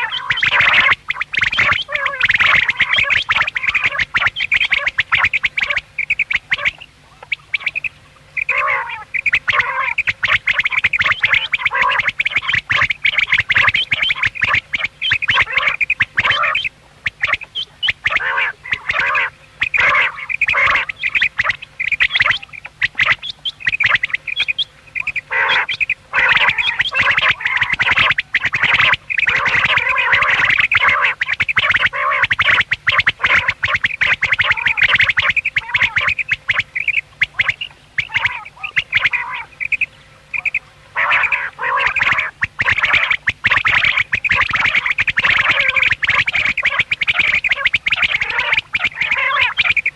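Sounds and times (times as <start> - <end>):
quail calling: 0.0 - 49.9.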